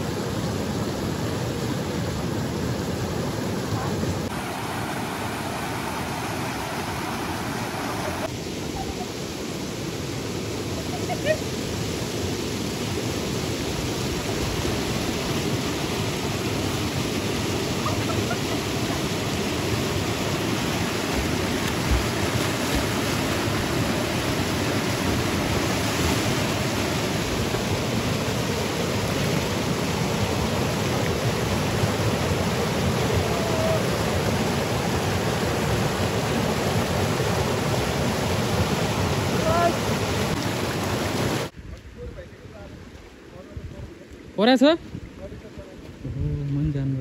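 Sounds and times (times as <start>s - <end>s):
stream water rushing: 0.0s - 46.1s.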